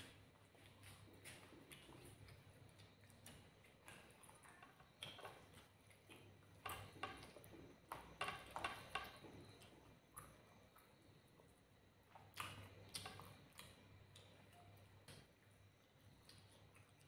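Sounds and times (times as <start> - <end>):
wet chewing with mouth clicks: 0.0 - 17.0.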